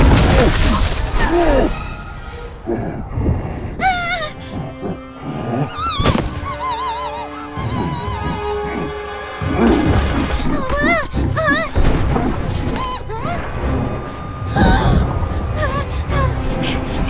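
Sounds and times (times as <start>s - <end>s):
cartoon background music: 0.0s - 17.0s.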